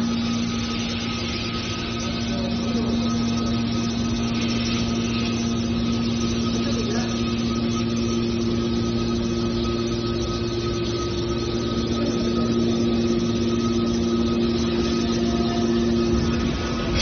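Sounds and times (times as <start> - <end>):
baler machine droning: 0.0 - 17.0.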